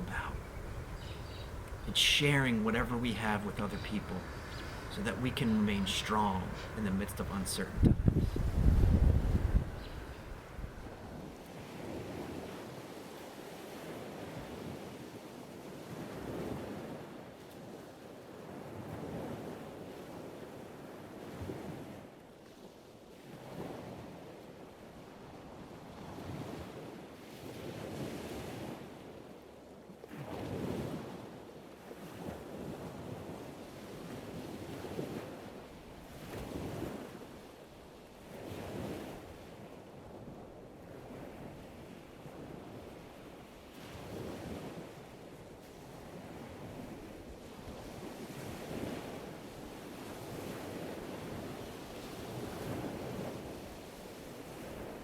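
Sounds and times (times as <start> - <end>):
ocean waves breaking: 0.0 - 22.1, 30.1 - 55.0.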